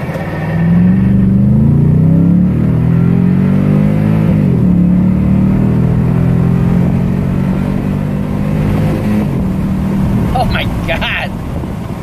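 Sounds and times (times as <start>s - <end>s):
transmission shifting up: 0.0s - 12.0s
truck engine accelerating: 0.0s - 12.0s.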